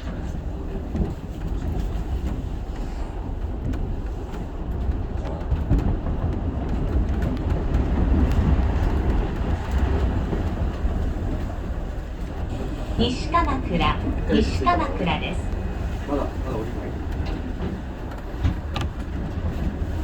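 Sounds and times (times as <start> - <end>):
monorail car low rumble: 0.0 - 20.0.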